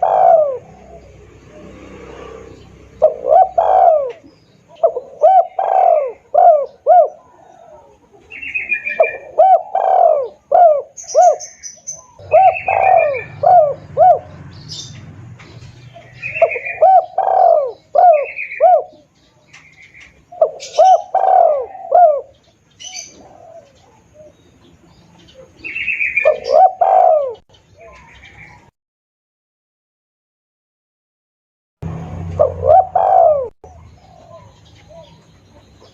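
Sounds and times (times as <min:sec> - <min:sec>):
doves cooing: 0:00.0 - 0:28.7, 0:31.8 - 0:35.9
small birds chirping: 0:00.0 - 0:28.7, 0:31.8 - 0:35.9.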